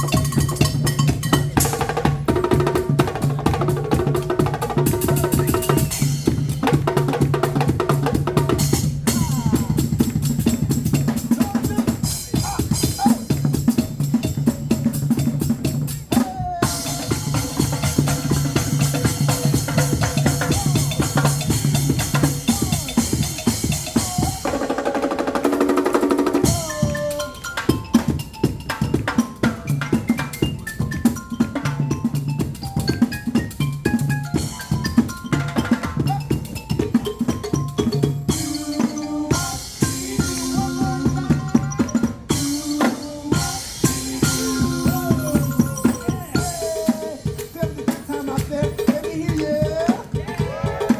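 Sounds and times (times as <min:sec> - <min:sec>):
drum beat with snare and bass drum: 0:00.0 - 0:50.9.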